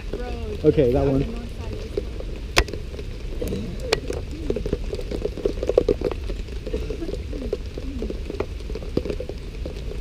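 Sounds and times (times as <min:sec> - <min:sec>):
heavy rain pattering: 0:00.0 - 0:10.0
low rumble: 0:00.0 - 0:10.0.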